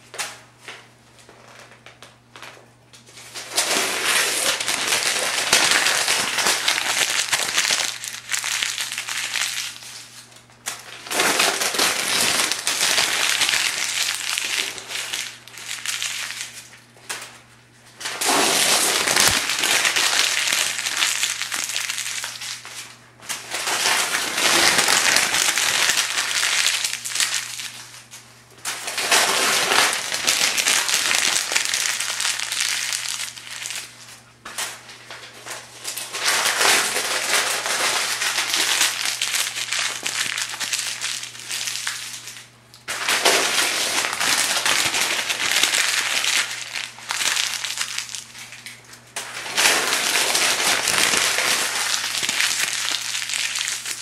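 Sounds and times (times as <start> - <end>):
paper crumpling and crackling: 3.2 - 16.8, 18.0 - 54.0.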